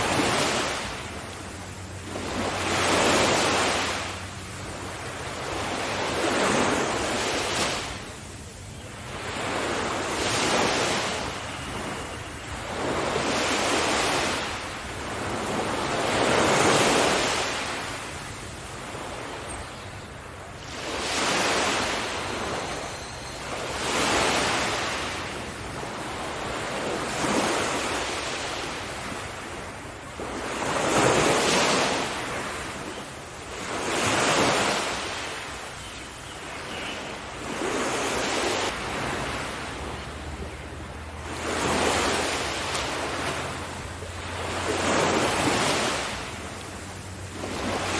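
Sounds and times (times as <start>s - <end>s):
sea waves breaking: 0.0s - 47.9s.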